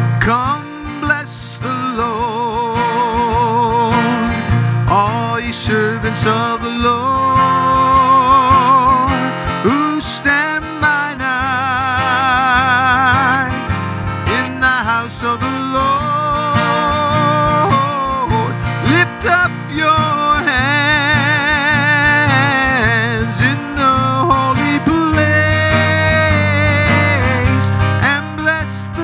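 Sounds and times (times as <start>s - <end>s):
acoustic guitar strumming: 0.0s - 29.0s
man singing: 0.0s - 29.0s.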